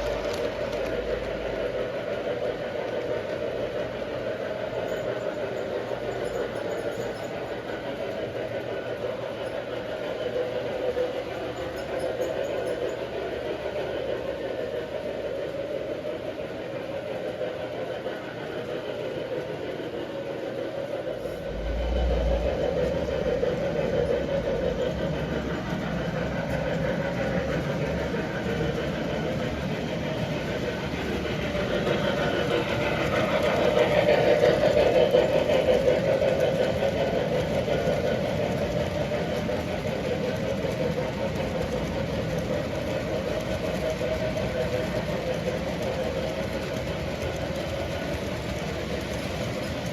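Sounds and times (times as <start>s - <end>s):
model train rumbling on track: 0.0s - 49.9s.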